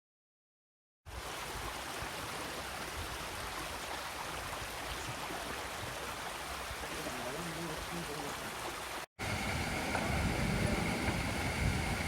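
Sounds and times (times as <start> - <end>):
stream water flowing: 1.1 - 12.0.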